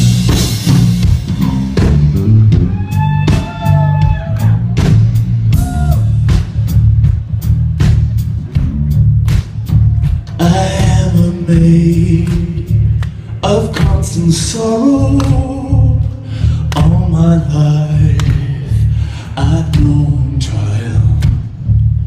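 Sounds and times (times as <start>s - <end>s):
drum kit beat: 0.0s - 22.0s
live rock band playing: 0.0s - 22.0s.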